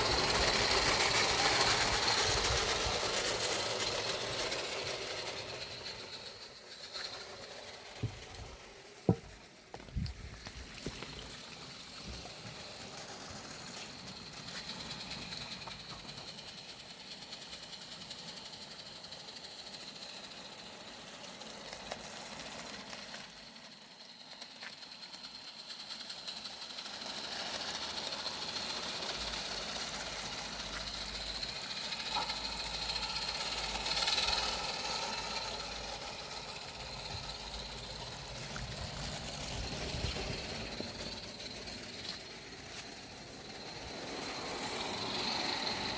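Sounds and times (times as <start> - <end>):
steam locomotive exhaust chuffing: 0.0 - 45.9.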